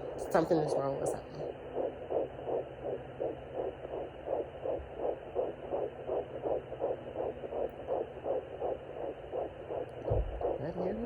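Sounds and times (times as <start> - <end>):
faint steady hum: 0.0 - 11.0
fetal heartbeat whooshing pulse: 0.0 - 11.0.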